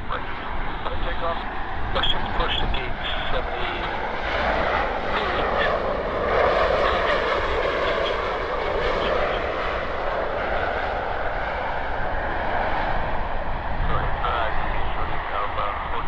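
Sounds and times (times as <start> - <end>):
jet engines roaring on landing: 0.0 - 16.0.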